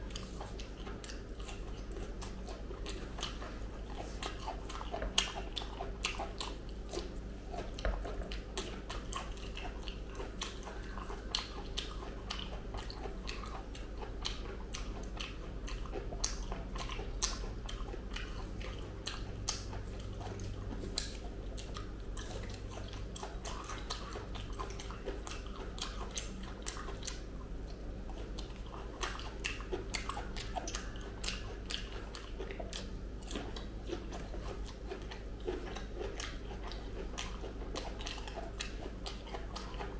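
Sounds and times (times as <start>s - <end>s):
wet biting and chewing: 0.0s - 39.9s.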